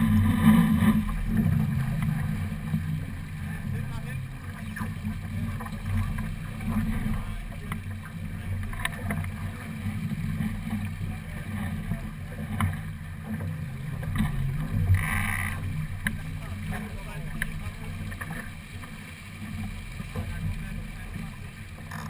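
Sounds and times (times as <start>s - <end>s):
water rushing along hull: 0.0s - 22.0s.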